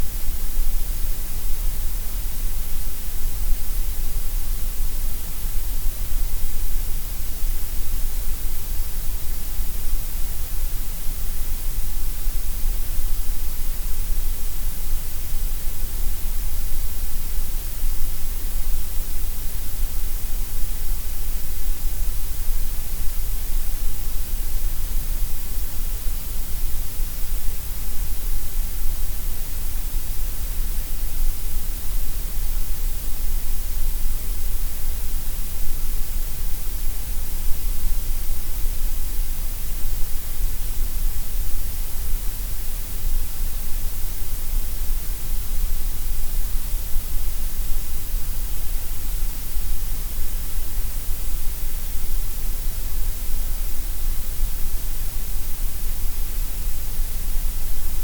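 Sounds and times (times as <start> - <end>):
steady gray noise hiss: 0.0 - 58.0.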